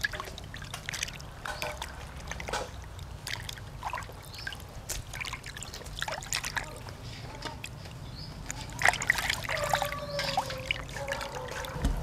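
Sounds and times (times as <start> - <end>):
water splashing in metal basin: 0.0 - 6.9, 8.5 - 12.0.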